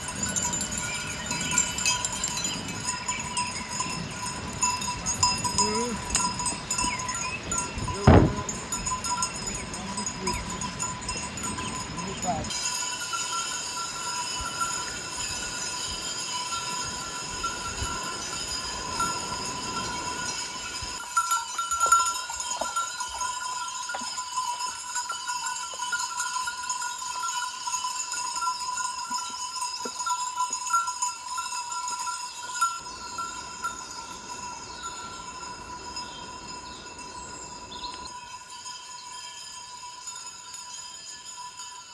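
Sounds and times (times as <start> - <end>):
livestock bells clanking: 0.0 - 41.9.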